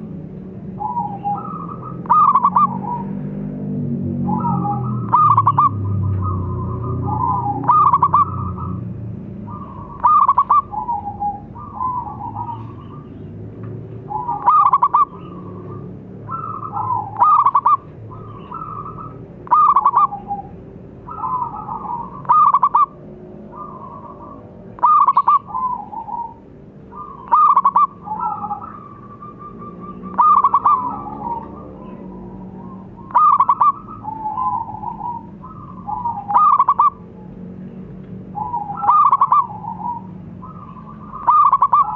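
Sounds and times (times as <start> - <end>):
dove cooing: 0.8 - 13.3, 14.0 - 37.4, 38.3 - 41.9.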